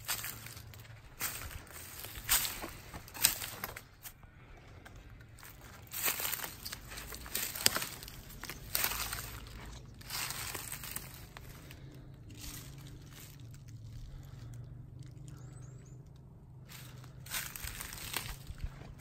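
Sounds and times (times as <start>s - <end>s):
footsteps crunching dry leaves: 0.0s - 4.2s, 5.3s - 15.5s, 16.6s - 19.0s.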